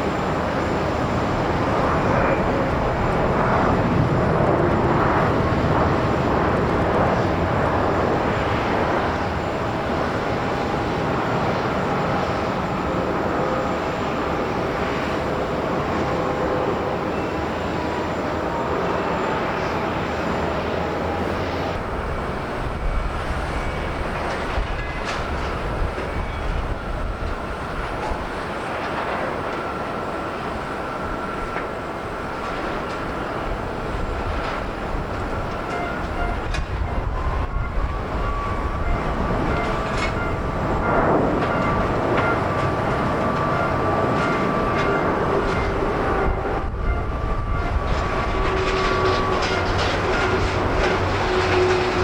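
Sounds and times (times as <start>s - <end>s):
jet engine rumble: 0.0s - 52.0s
thin engine whine: 0.0s - 52.0s.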